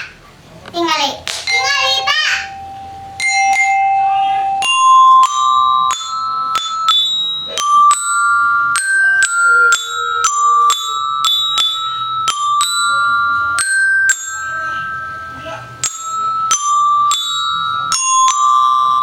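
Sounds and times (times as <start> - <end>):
glockenspiel melody: 1.5 - 19.0.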